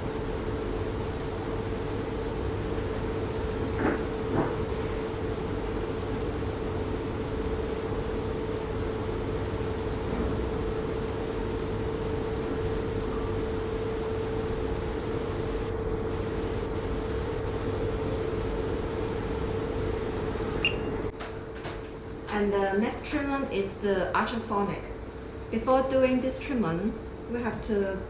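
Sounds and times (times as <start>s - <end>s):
machine humming with steady tone: 0.0s - 28.0s.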